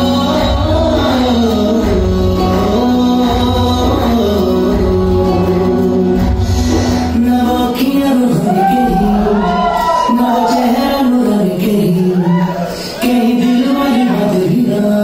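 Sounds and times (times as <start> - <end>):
dance song with singing: 0.0 - 15.0.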